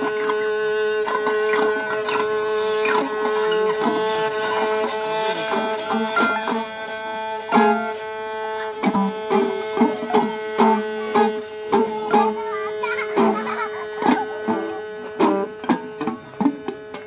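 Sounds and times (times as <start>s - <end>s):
guitar plucked notes: 0.0s - 17.0s
violin bowed note: 0.0s - 17.0s.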